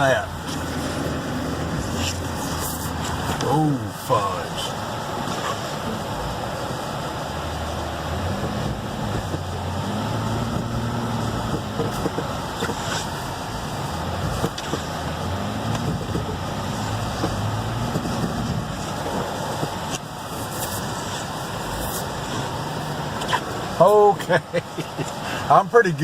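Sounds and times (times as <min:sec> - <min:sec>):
car engine revving: 0:00.0 - 0:25.2
tyres churning through snow: 0:00.0 - 0:26.0.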